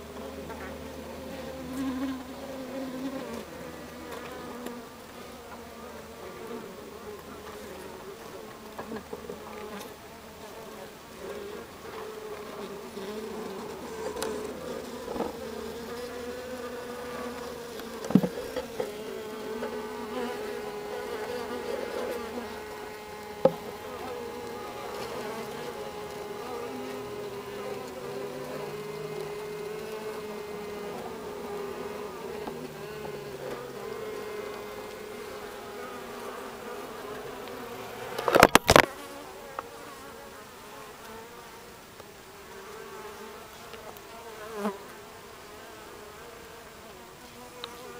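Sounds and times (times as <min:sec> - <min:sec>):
bees buzzing in hive: 0:00.0 - 0:47.9.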